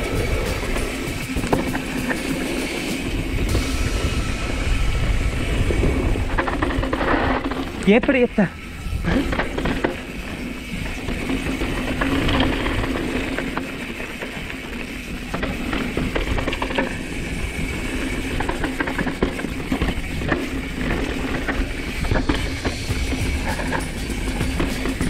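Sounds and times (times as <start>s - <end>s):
bike knocking and rattling: 0.0s - 25.0s
wind and tyre noise on dirt: 0.0s - 25.0s.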